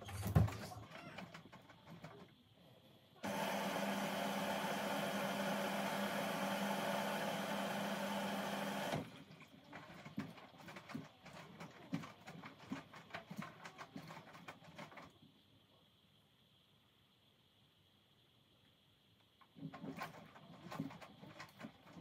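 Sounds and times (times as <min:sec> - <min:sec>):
washing machine hum: 0:00.0 - 0:17.2, 0:18.7 - 0:22.0.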